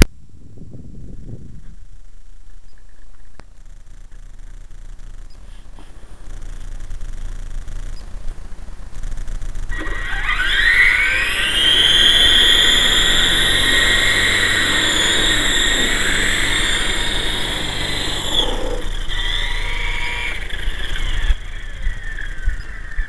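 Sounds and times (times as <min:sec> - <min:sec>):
rc helicopter rotor whine: 0:03.6 - 0:23.0.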